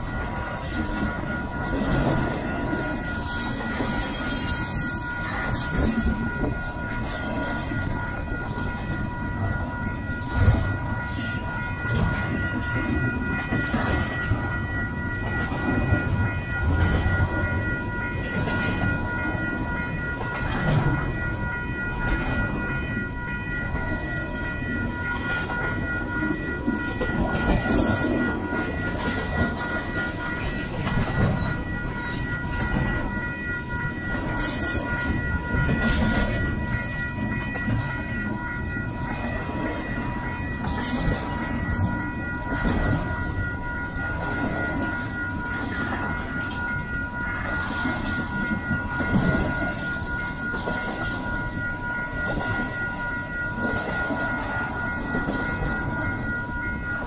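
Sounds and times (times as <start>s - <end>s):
faint high ringing tone: 0.0s - 57.0s
train wheels rumbling on rail: 0.0s - 57.0s.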